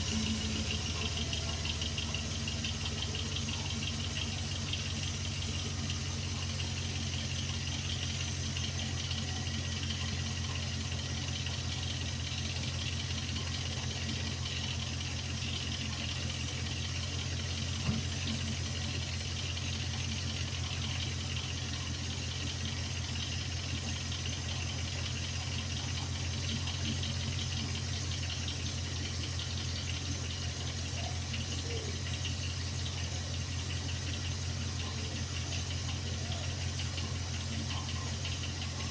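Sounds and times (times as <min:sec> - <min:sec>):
engine idling with knock: 0:00.0 - 0:38.9.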